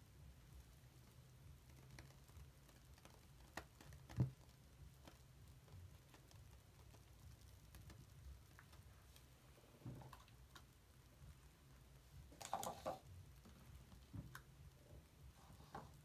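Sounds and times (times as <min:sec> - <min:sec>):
lather bubbles crackling: 0:00.8 - 0:16.0.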